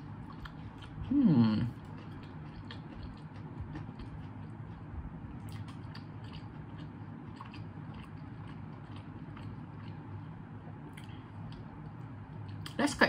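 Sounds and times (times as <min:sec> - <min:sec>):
person chewing food: 0:00.0 - 0:12.7
steady low hum: 0:00.0 - 0:13.0.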